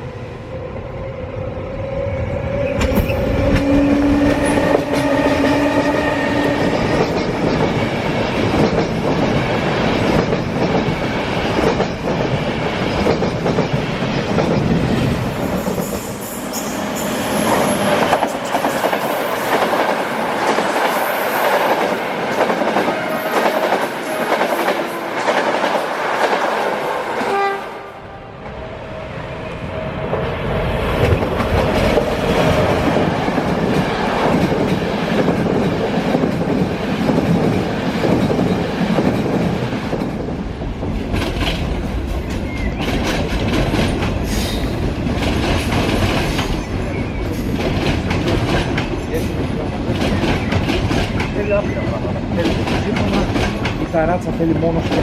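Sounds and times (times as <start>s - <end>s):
heavy low rumble of train: 0.0s - 55.0s
train wheels clattering on rails: 2.8s - 27.3s, 30.9s - 55.0s.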